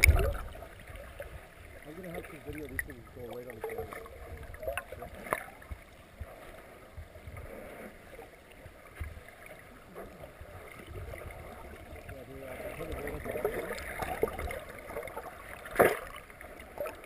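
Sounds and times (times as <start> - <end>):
muffled underwater water movement: 0.0 - 17.0.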